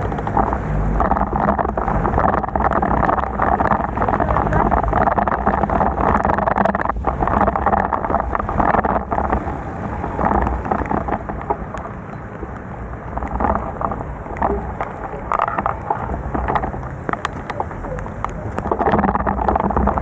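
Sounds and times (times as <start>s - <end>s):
rain and wet road spray: 0.0s - 20.0s
raindrop ticks: 0.0s - 20.0s
wind rumble on microphone: 0.0s - 20.0s.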